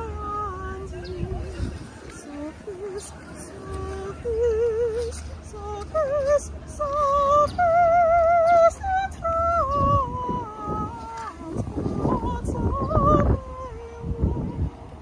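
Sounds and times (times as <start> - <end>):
girl singing with vibrato: 0.0 - 15.0.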